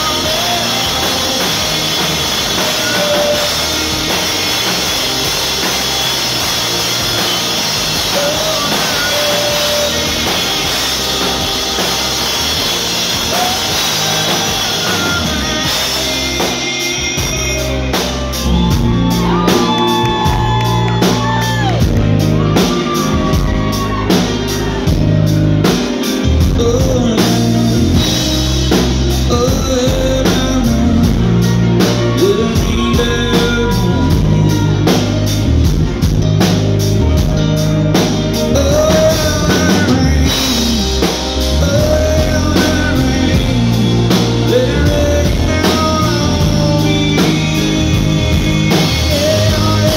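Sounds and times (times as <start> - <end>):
live band playing: 0.0 - 49.9
man singing: 0.0 - 49.9.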